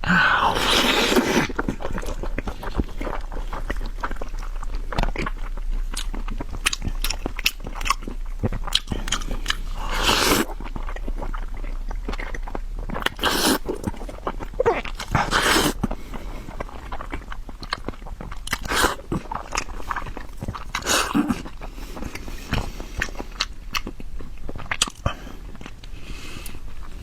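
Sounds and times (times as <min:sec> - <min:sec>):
close-miked biting and chewing: 0:00.4 - 0:27.0.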